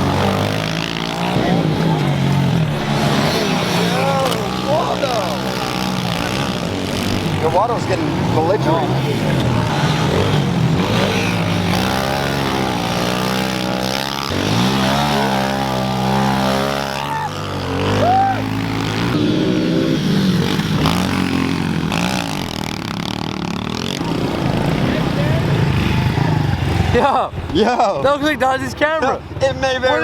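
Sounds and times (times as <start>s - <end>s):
pit bike engines revving: 0.0s - 30.0s.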